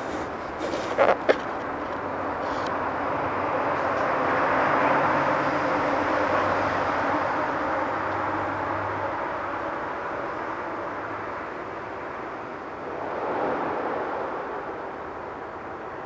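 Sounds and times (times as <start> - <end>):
distant vehicle passing: 2.0 - 16.0.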